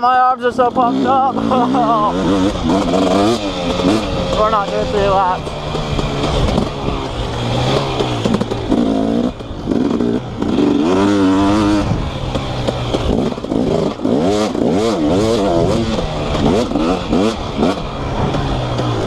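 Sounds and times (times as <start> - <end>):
two-stroke motorcycle engine revving: 0.0 - 19.0.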